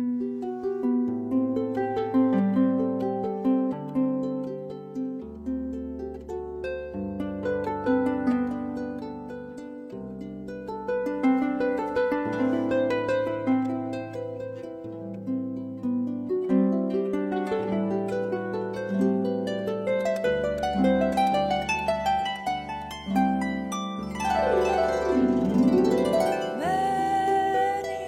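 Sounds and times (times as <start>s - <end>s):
solo harp melody: 0.0s - 28.0s.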